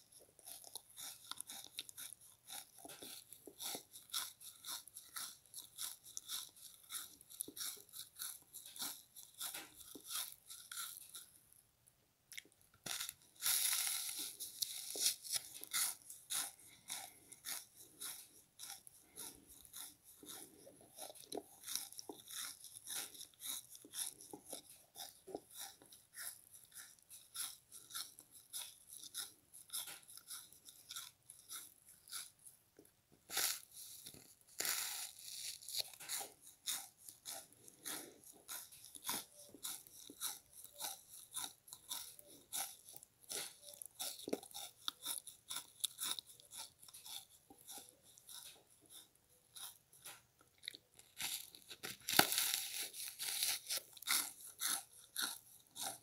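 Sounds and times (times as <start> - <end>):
crisp crunching and chewing: 0.0 - 11.6, 12.3 - 56.0.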